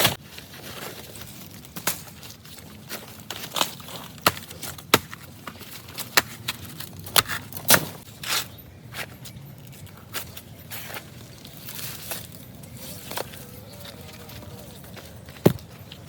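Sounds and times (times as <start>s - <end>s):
low outdoor background: 0.0s - 16.0s.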